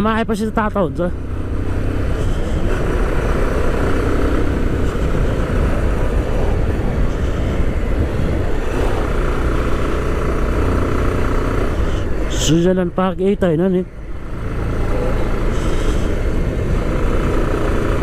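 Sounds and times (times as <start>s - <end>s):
motorcycle engine rumble: 0.0s - 18.0s
wind rushing over microphone: 1.1s - 18.0s.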